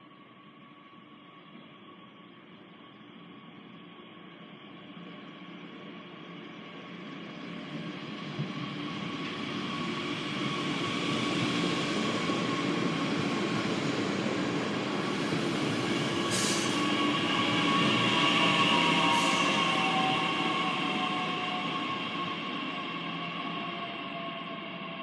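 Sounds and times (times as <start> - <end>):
train rail and wheel noise: 0.0 - 25.0.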